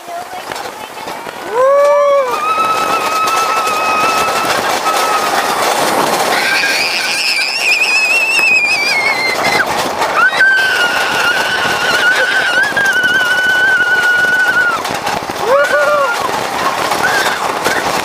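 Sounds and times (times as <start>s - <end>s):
roller coaster ride noise: 0.0s - 18.0s
rushing wind: 0.0s - 18.0s
riders screaming: 1.4s - 18.0s.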